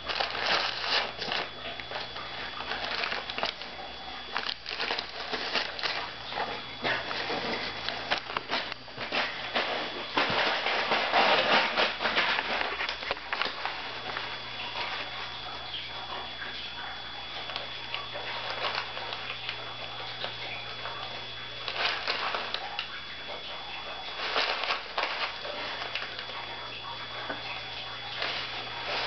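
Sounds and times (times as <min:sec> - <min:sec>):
paper bag crinkling: 0:00.0 - 0:16.6, 0:17.3 - 0:29.0.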